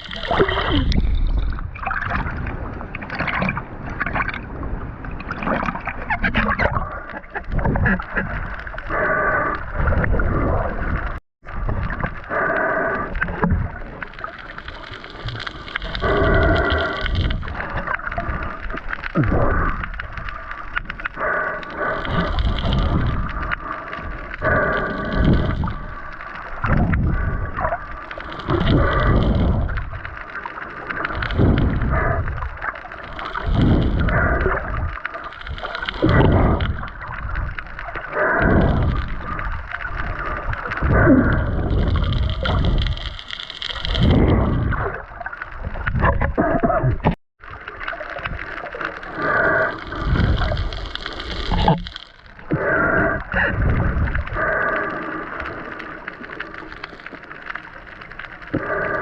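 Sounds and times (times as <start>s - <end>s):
water sloshing and gurgling: 0.0s - 59.0s
snorkel breathing: 6.8s - 47.1s, 48.1s - 59.0s.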